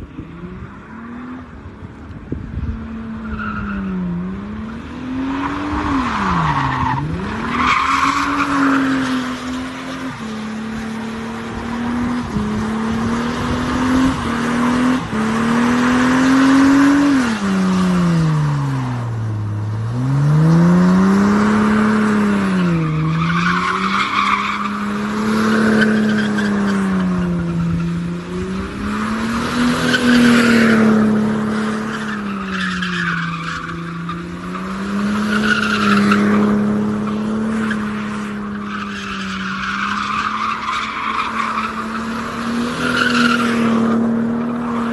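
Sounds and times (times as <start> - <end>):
tyres skidding: 0.0 - 44.9
car engine revving: 2.9 - 44.9.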